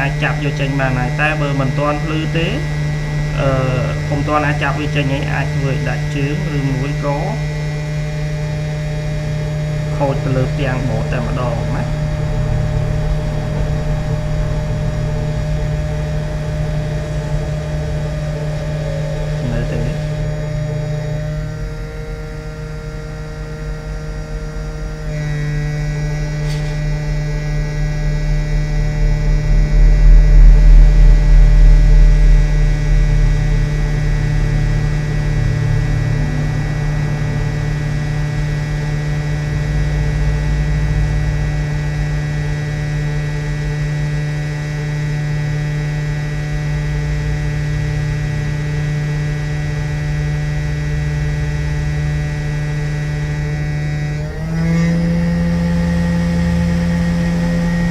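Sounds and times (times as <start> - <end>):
hot air station blowing: 0.0 - 57.9.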